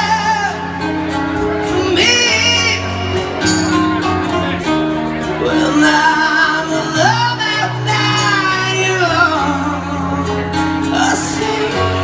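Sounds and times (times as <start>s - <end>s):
man singing: 0.0s - 12.0s
nylon-string guitars: 0.0s - 12.0s.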